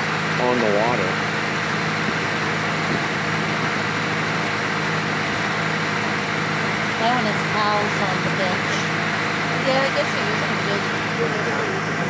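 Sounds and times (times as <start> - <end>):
boat engine drone: 0.0 - 12.0
water wash along hull: 0.0 - 12.0.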